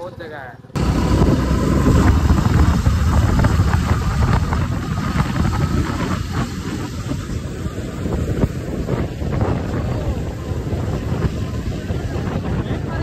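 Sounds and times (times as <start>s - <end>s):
motorcycle and road noise: 0.0s - 13.0s
wind buffeting microphone: 0.0s - 13.0s.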